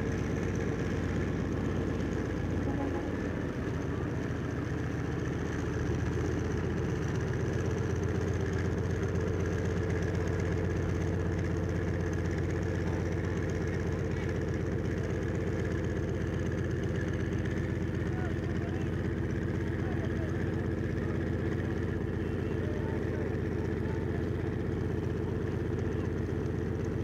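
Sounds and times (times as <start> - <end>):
radial aero engine running: 0.0 - 27.0.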